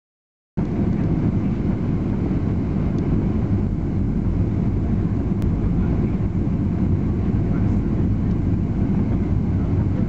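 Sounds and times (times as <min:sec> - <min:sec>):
airliner cabin engine rumble: 0:00.6 - 0:10.0.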